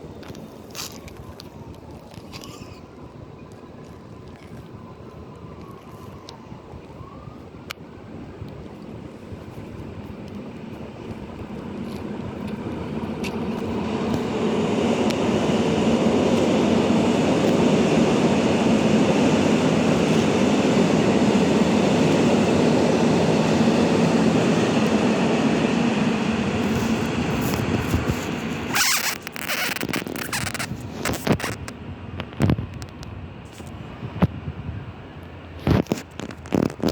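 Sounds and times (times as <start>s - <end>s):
train passing with rumbling roar: 0.0s - 36.9s
wind buffeting on microphone: 0.0s - 36.9s.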